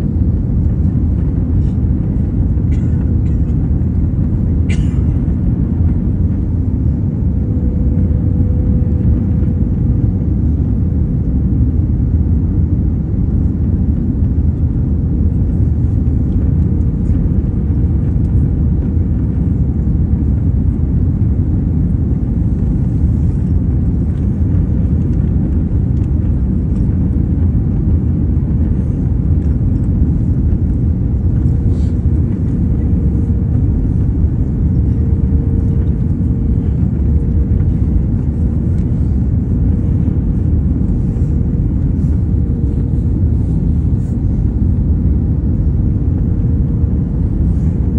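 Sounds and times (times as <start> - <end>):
faint steady hum: 0.0 - 47.9
low rumble of airflow and engines: 0.0 - 47.9.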